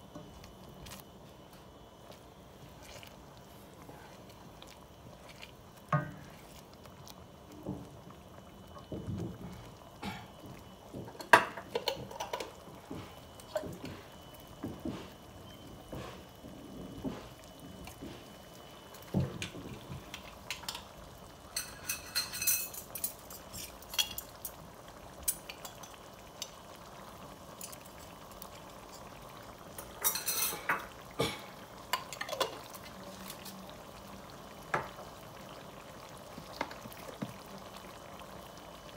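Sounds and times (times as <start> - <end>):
sauce bubbling: 0.0 - 38.9.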